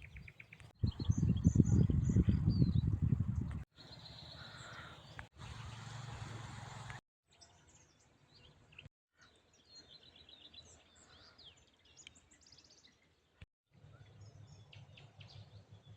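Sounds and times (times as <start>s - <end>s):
faint birdsong: 0.0s - 15.9s.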